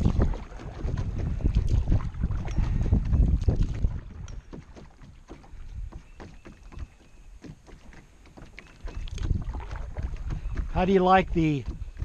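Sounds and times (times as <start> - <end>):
paddle splashing and dripping: 0.0 - 12.0
water lapping against hull: 0.0 - 12.0.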